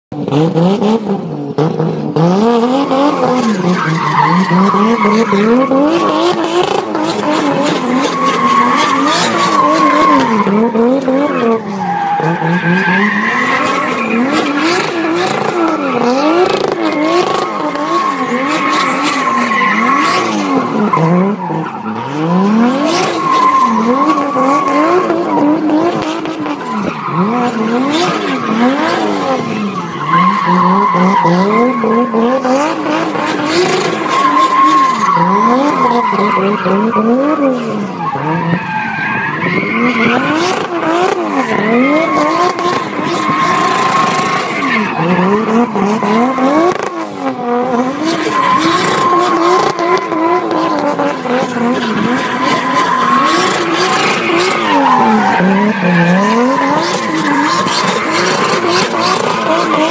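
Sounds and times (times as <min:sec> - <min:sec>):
car engine revving: 0:00.1 - 0:59.9
tyre squeal: 0:03.1 - 0:22.1, 0:26.5 - 0:47.1, 0:48.0 - 0:59.9.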